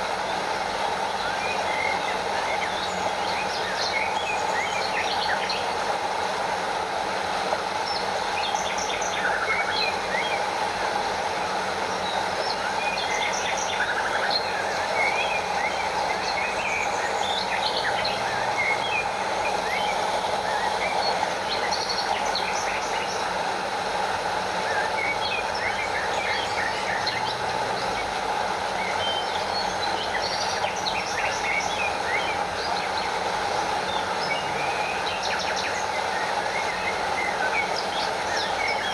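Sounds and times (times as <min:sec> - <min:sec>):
stream over small waterfall: 0:00.0 - 0:38.9.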